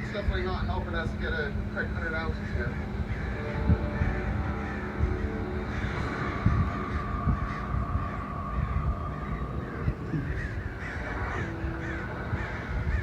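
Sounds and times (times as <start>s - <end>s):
flock of birds calling: 0.0s - 13.0s
steady low rumble: 0.0s - 13.0s.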